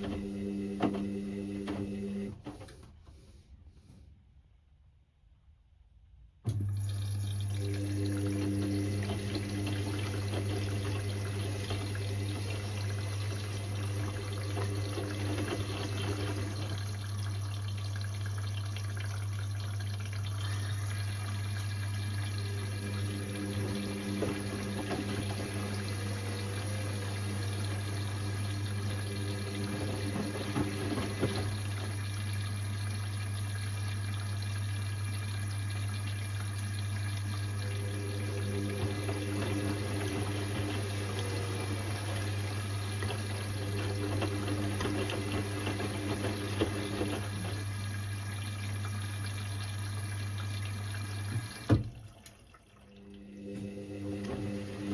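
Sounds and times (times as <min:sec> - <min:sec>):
washing machine humming: 0:00.0 - 0:03.7, 0:06.3 - 0:54.9
running water: 0:06.6 - 0:53.4.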